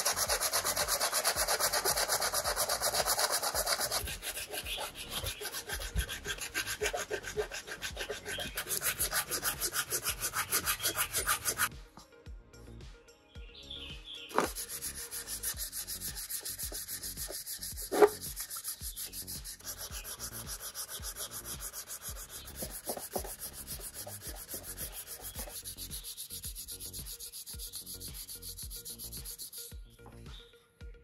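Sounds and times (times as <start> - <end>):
sandpaper rubbing plastic: 0.0 - 11.7, 14.3 - 29.7.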